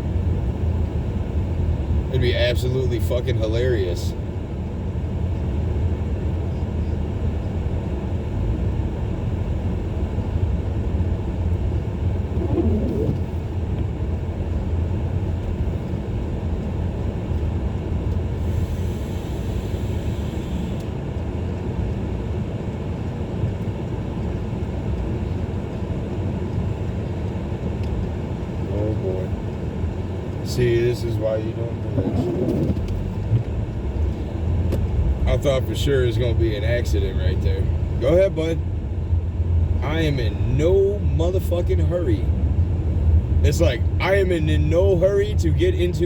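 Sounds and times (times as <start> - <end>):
car driving on snowy road: 0.0 - 46.0.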